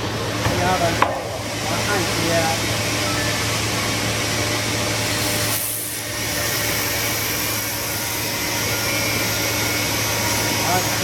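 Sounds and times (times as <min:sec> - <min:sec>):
constant low hum: 0:00.0 - 0:11.0
machine whirring: 0:00.0 - 0:11.0.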